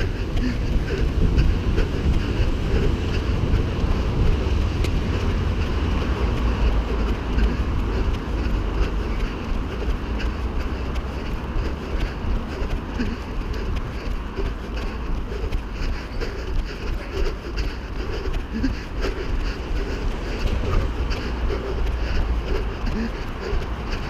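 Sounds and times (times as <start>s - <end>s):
faint footfall ticks: 0.0s - 19.6s
wind rumbling on microphone: 0.0s - 24.0s.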